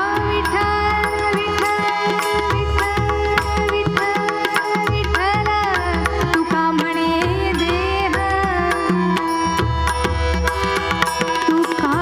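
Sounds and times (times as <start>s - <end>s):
tabla playing: 0.0s - 12.0s.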